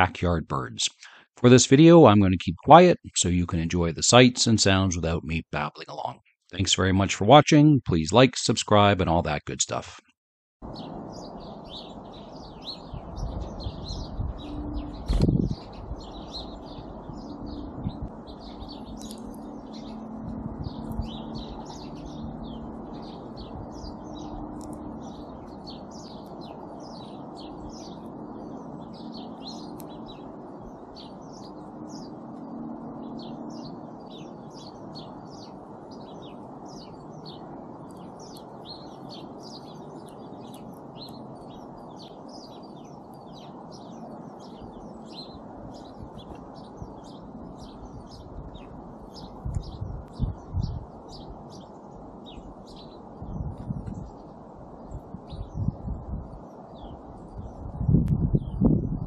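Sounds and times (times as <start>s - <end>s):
songbirds chirping: 0.0s - 9.8s, 10.6s - 59.0s.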